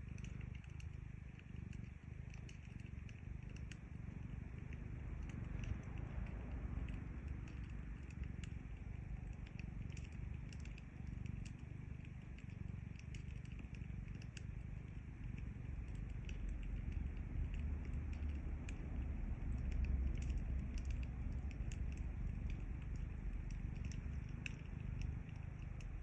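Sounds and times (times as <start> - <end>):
cat purring: 0.0 - 26.0
wood fire crackling: 0.0 - 26.0.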